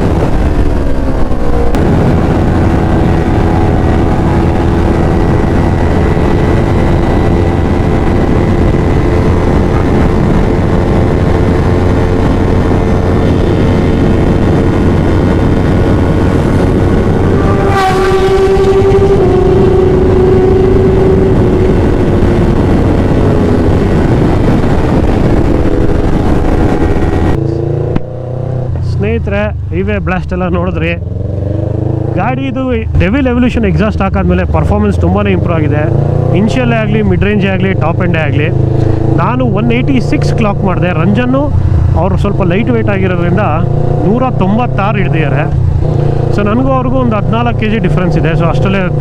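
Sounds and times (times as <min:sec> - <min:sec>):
motorcycle engine at high revs: 0:00.0 - 0:28.8, 0:31.0 - 0:32.3, 0:34.2 - 0:49.0
wind rush: 0:00.0 - 0:49.0.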